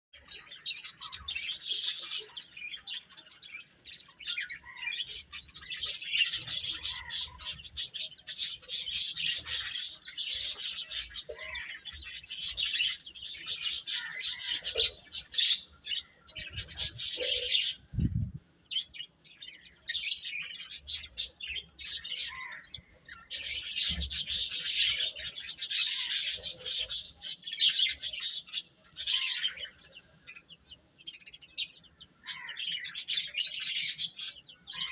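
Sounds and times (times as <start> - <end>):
chicks peeping: 0.5 - 19.2, 19.9 - 34.9.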